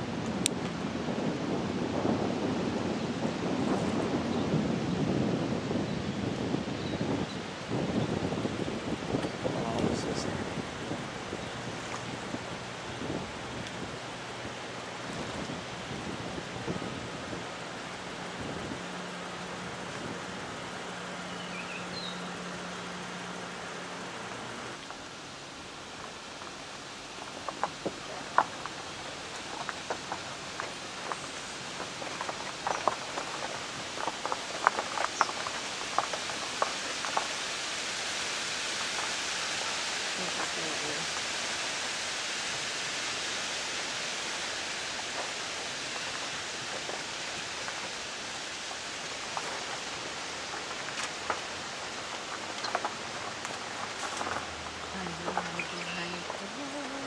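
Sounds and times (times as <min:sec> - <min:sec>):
wind noise on microphone: 0:00.0 - 0:57.0
outdoor rushing hiss: 0:07.4 - 0:57.0.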